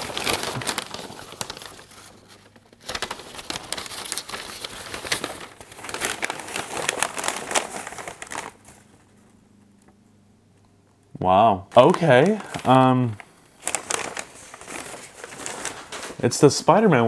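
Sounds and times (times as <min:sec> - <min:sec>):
packaging crinkling and rustling: 0:00.0 - 0:10.0, 0:11.7 - 0:17.0.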